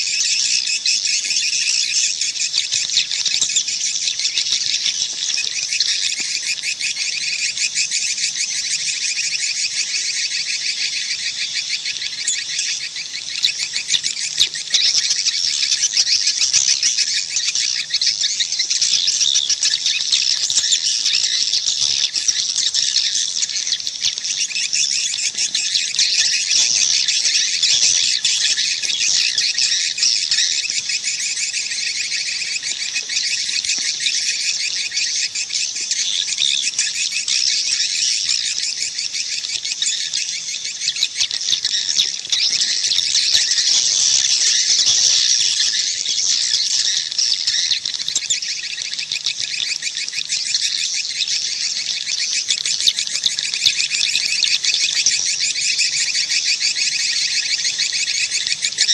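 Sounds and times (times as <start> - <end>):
swiftlets twittering: 0.0 - 58.9.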